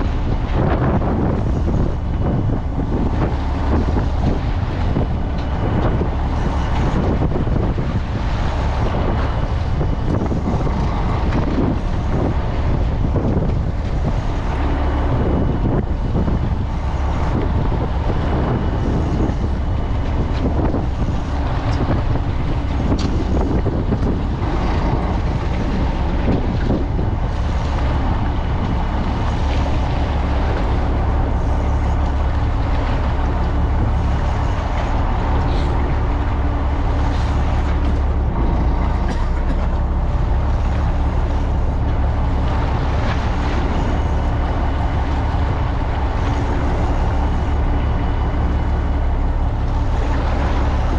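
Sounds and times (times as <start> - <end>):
boat engine humming: 0.0 - 50.9
water noise: 0.0 - 50.9
wind: 0.0 - 50.9.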